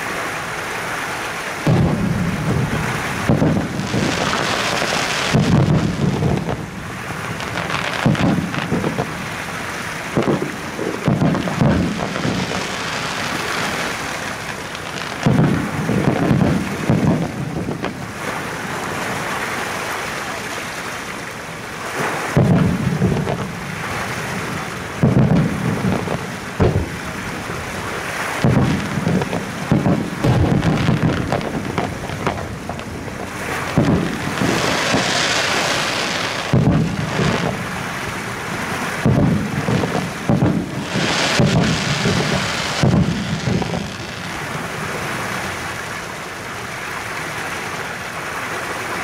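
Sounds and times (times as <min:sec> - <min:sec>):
steady hiss: 0:00.0 - 0:49.0
fireworks booming: 0:01.6 - 0:19.1, 0:21.6 - 0:45.7.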